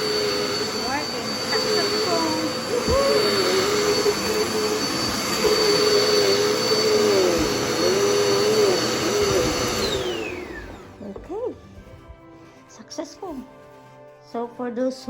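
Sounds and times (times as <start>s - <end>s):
vacuum cleaner running: 0.0s - 12.2s.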